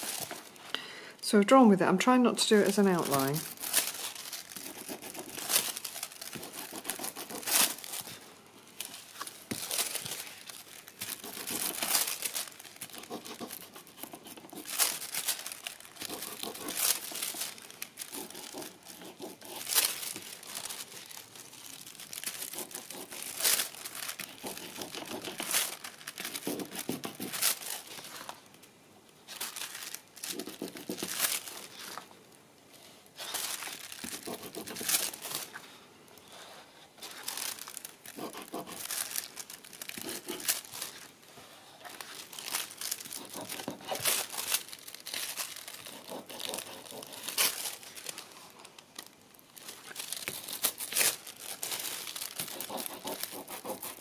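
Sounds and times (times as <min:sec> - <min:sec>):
foil crinkling and crackling: 0:00.0 - 0:00.9, 0:02.4 - 0:32.3, 0:33.1 - 0:54.0.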